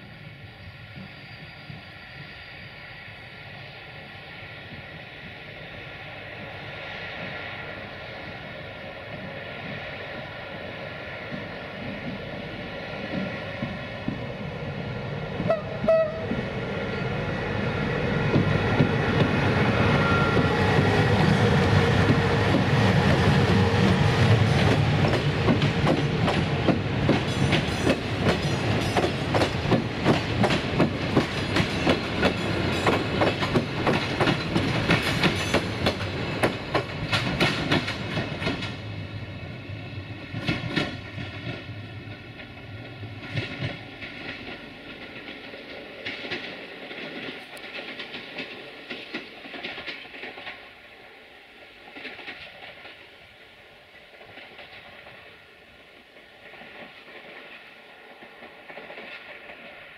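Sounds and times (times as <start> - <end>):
train running noise: 0.0 - 59.9.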